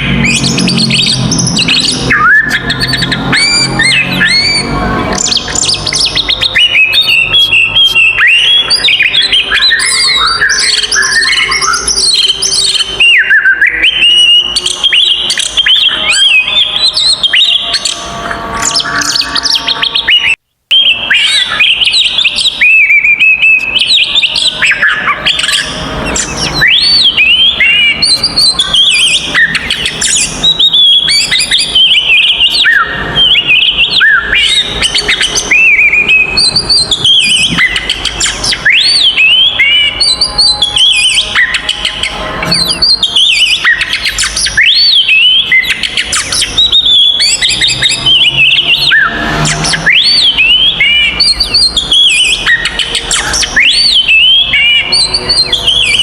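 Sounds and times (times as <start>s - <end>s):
bird singing whistled song: 0.0s - 56.0s.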